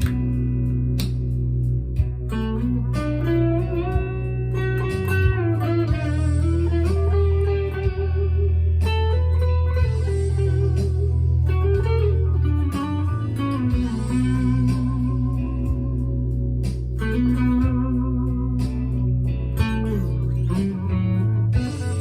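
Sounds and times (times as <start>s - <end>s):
electric guitar lead line: 0.0s - 22.0s
steady low bass: 0.0s - 22.0s.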